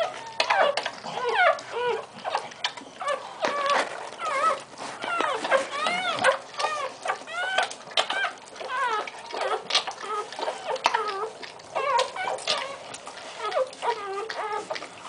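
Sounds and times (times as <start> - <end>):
puppies crying: 0.0 - 15.0.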